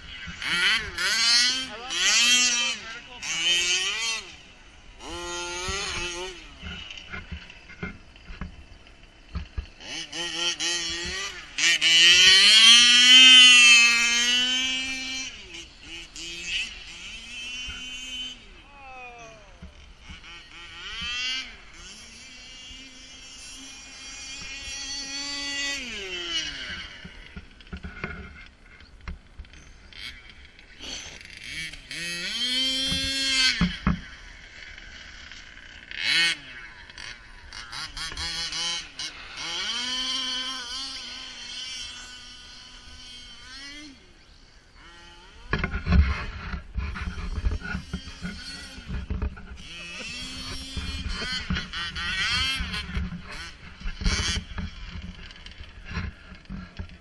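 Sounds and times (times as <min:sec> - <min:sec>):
radio-controlled cars revving past: 0:00.0 - 0:57.0
toy truck motor running: 0:00.0 - 0:57.0.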